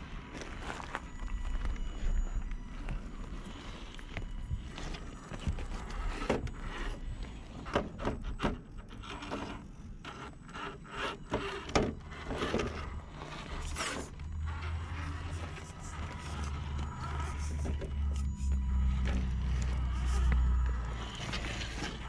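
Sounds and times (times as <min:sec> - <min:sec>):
toy cars scraping on rock: 0:03.4 - 0:22.0.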